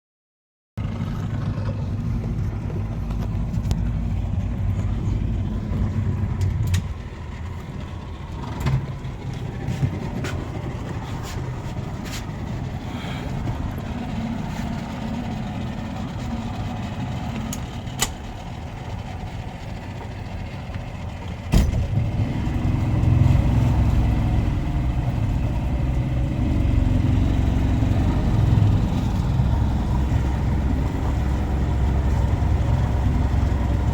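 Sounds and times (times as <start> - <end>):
engine rumbling: 0.8 - 33.9.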